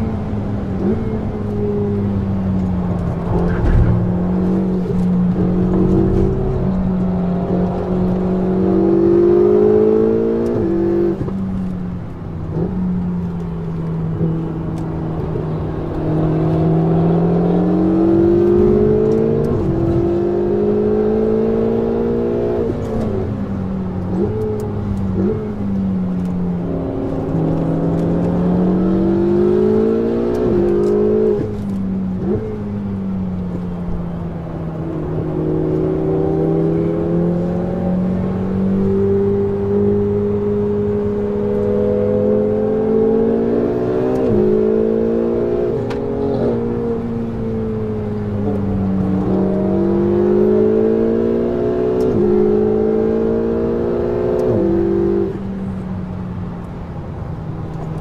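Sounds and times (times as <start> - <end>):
car engine accelerating and upshifting: 0.0 - 58.0.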